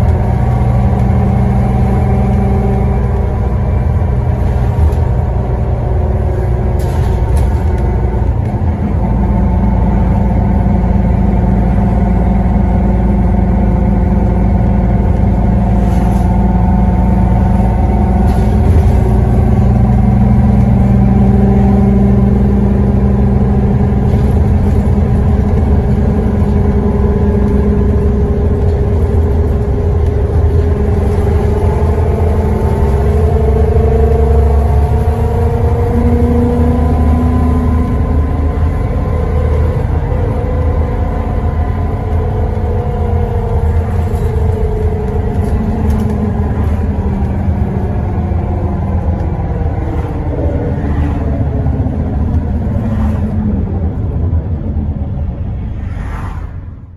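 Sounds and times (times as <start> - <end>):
whining differential: 0.0 - 56.0
bus engine rumble: 0.0 - 56.9.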